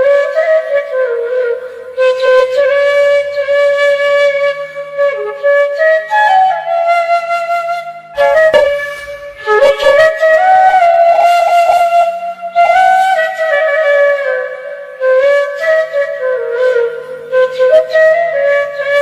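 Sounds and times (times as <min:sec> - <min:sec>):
flute playing slow melody: 0:00.0 - 0:19.0.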